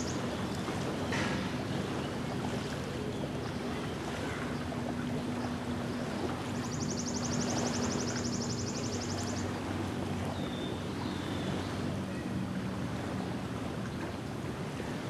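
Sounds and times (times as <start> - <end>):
distant motorboat engine humming: 0.0 - 15.0
waves lapping on sandy shore: 0.0 - 15.0.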